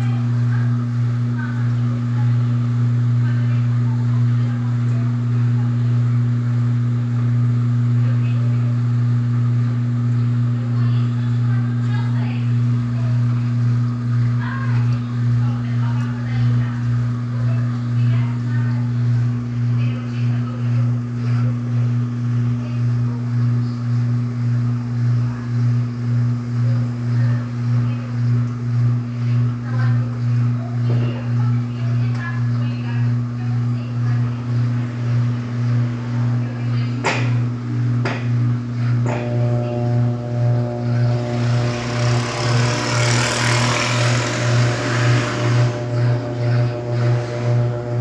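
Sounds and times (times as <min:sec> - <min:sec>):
washing machine motor hum: 0:00.0 - 0:48.0.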